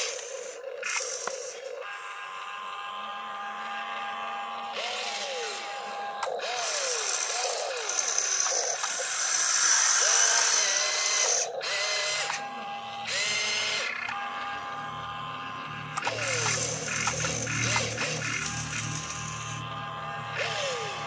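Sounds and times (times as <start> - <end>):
high grinding noise: 0.0 - 21.0
small electric motors whining: 0.0 - 21.0.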